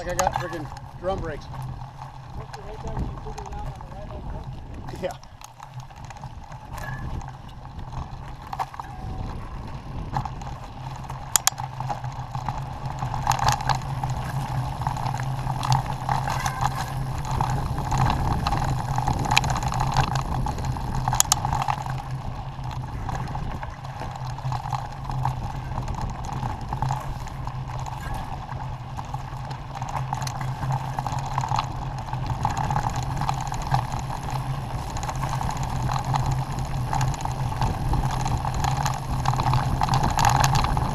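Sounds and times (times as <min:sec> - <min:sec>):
off-road vehicle engine running: 0:00.0 - 0:40.9
rattles: 0:00.0 - 0:40.9.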